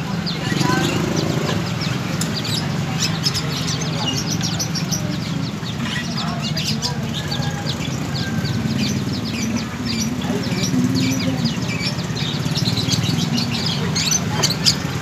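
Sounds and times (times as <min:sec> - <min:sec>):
small birds chirping: 0:00.0 - 0:15.0
street traffic rumble: 0:00.0 - 0:15.0.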